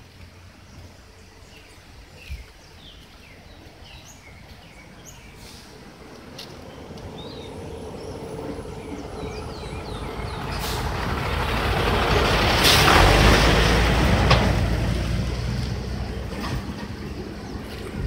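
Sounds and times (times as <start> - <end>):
truck passing: 2.8 - 18.0.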